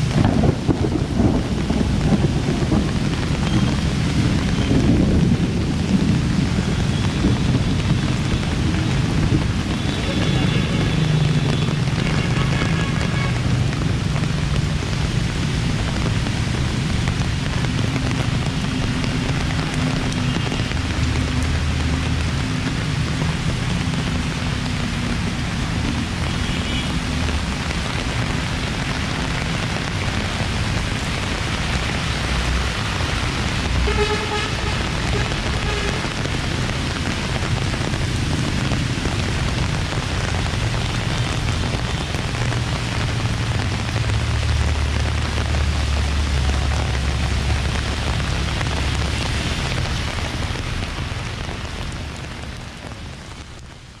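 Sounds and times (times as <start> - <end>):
car traffic rumble: 0.0 - 54.0
heavy rain on a wet street: 0.0 - 54.0.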